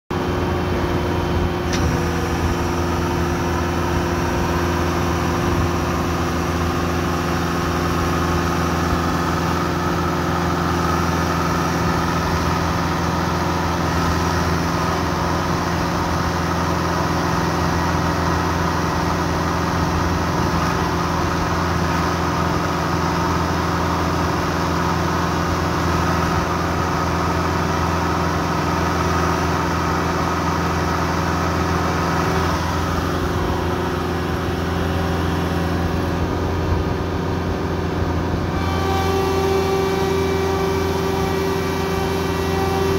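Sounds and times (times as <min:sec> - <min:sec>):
skid steer engine running: 0:00.1 - 0:42.9
hydraulic auger boring into dirt: 0:00.2 - 0:42.9.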